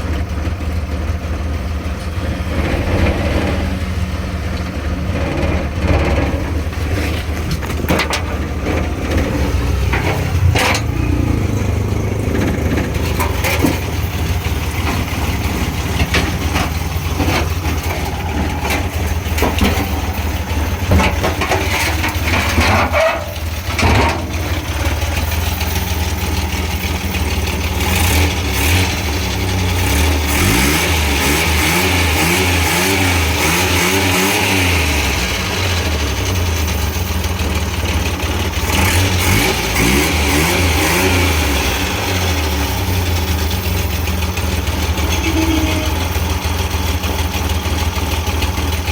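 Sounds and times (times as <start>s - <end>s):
engine knocks: 0.0s - 48.9s
truck engine idling: 0.0s - 48.9s
engine revving: 2.1s - 48.9s.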